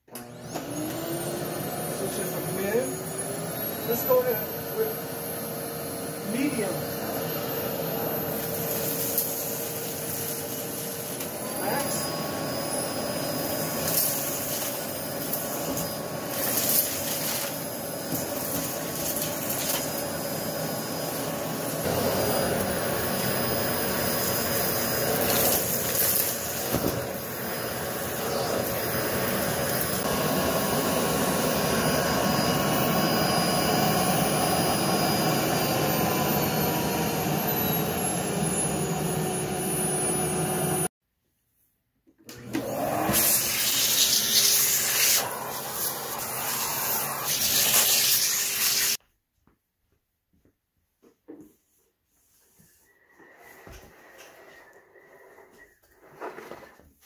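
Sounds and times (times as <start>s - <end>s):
vacuum cleaner running on carpet: 0.1s - 40.9s, 42.3s - 49.0s.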